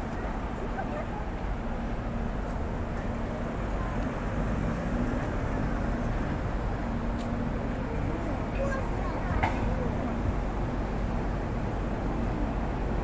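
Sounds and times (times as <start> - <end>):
engine hum: 0.0 - 13.0
passing vehicles rumbling: 0.0 - 13.0.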